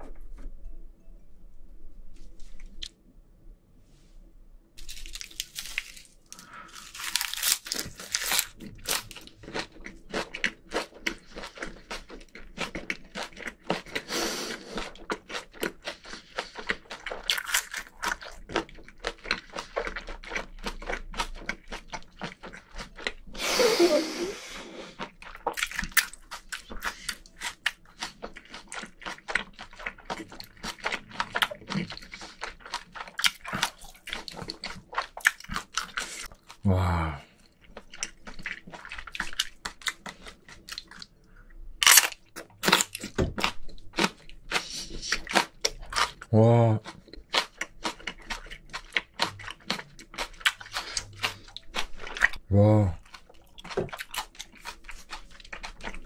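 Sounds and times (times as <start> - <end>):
wet crunching and chewing: 4.8 - 23.4, 24.8 - 36.6, 37.2 - 56.0.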